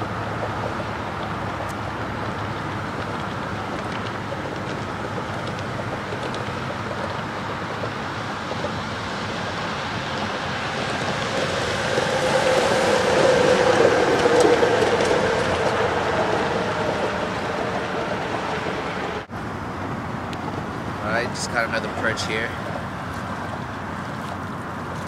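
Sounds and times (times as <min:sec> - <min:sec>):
louder vehicle passing: 0:00.0 - 0:24.8
road traffic roar: 0:00.0 - 0:25.0.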